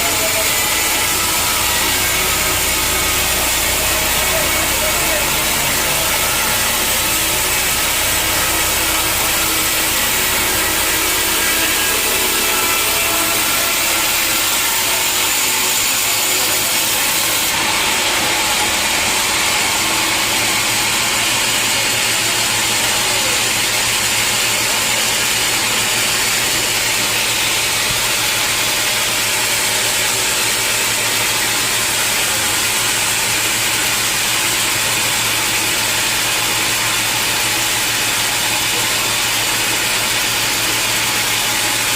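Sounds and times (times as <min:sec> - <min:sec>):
band saw cutting log: 0:00.0 - 0:41.9.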